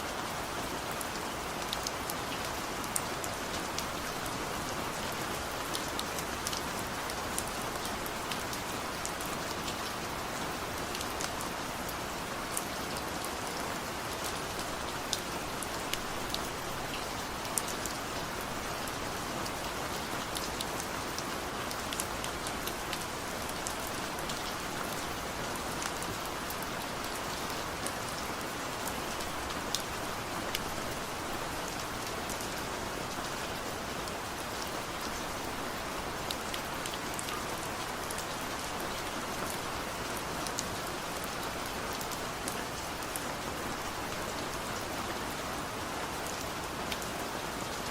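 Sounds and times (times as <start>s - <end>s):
rain falling on a surface: 0.0s - 47.9s.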